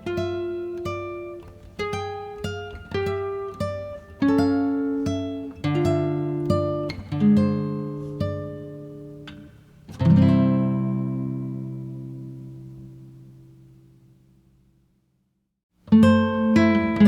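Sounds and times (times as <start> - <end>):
acoustic guitar picking: 0.0 - 13.9, 15.9 - 17.0.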